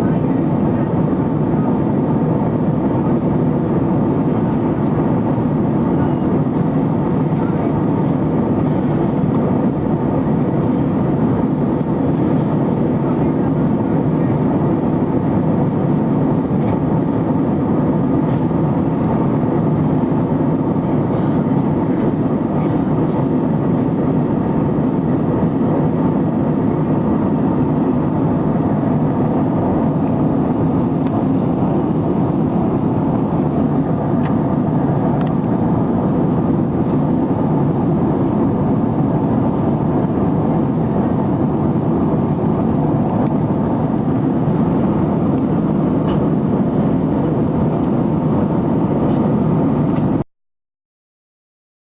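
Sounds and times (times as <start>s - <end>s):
jet cabin engine rumble: 0.0s - 50.2s.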